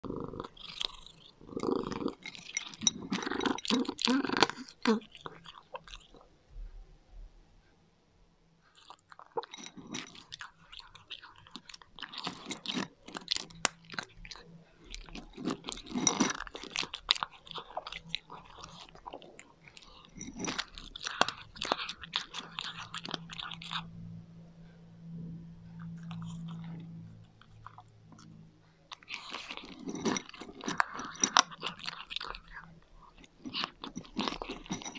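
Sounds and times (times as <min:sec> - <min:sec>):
cat crunching dry kibble: 0:00.0 - 0:06.2, 0:08.8 - 0:24.1, 0:25.7 - 0:34.9.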